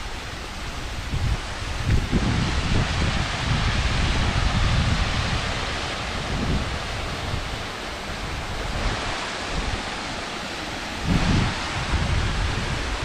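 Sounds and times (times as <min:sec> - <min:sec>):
outdoor hiss: 0:00.0 - 0:13.0
wind buffeting microphone: 0:00.0 - 0:13.0.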